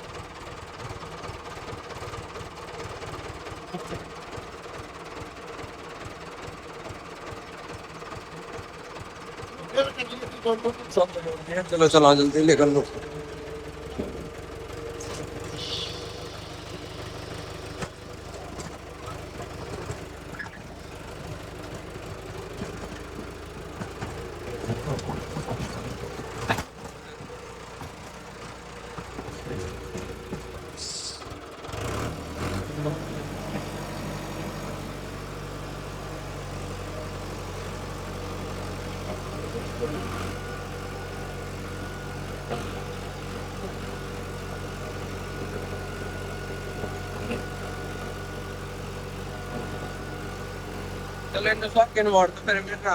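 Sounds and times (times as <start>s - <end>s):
tractor engine knocking and idling: 0.0s - 52.9s.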